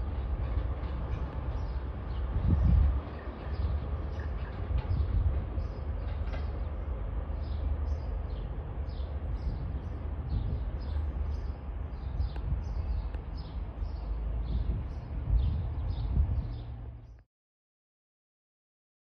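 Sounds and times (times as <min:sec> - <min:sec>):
diesel train rumble: 0:00.0 - 0:17.2.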